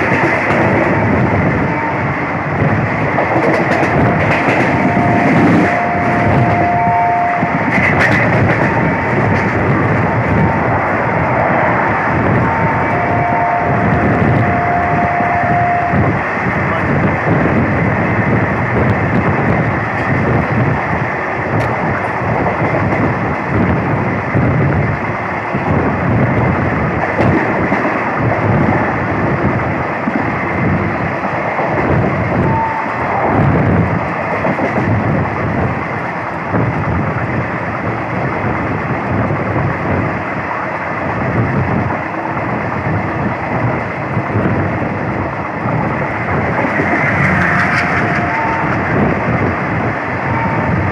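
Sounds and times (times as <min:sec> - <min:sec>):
train wheels on rails: 0:00.0 - 0:50.9
wind noise: 0:00.0 - 0:50.9.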